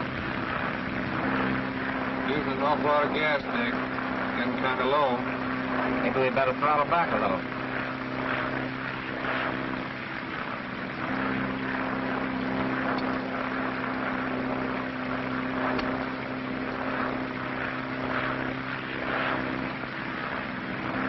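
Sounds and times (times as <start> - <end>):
propeller airplane engines droning: 0.0 - 21.0.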